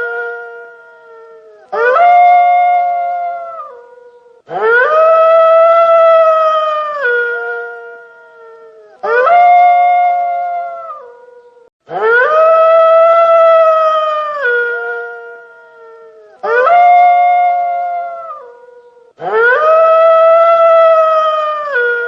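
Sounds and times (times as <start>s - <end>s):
wolf howling: 0.0s - 22.0s.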